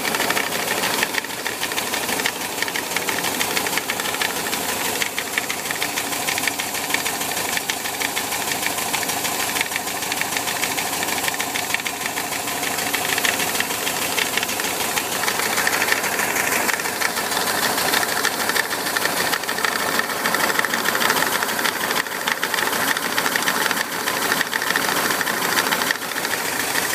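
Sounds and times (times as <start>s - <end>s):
air-cooled engine running: 0.0s - 26.9s.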